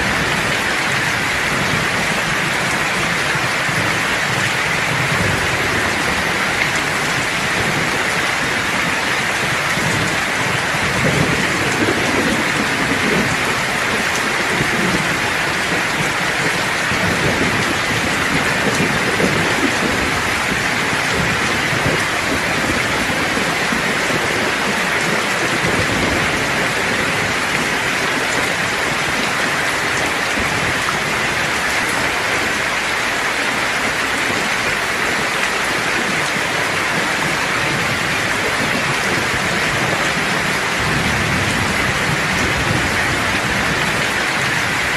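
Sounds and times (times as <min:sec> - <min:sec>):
steady rain falling: 0:00.0 - 0:44.9
thunder rumbling: 0:00.0 - 0:44.9.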